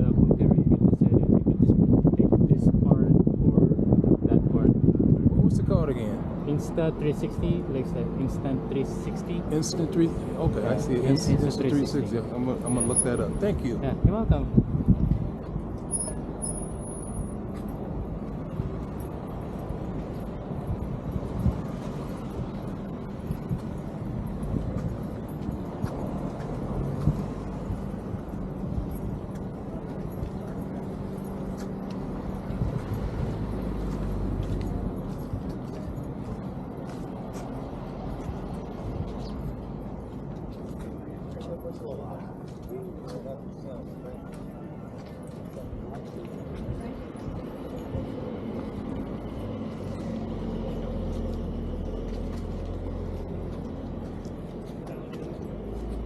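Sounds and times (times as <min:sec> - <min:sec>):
faint engine hum: 0:00.0 - 0:56.0.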